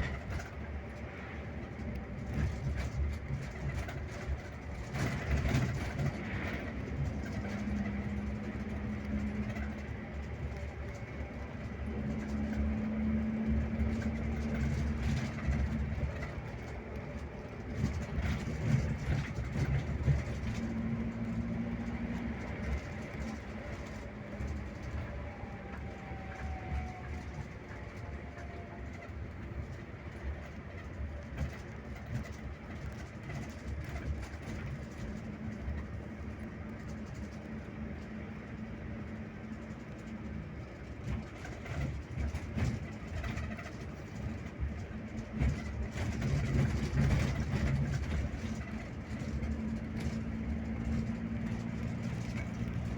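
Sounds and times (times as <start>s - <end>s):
coach engine drone: 0.0s - 52.9s
road noise: 0.0s - 52.9s.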